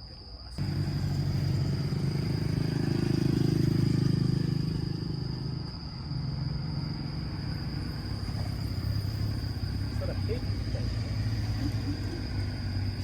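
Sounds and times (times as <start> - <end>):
engine rumble: 0.2 - 13.0.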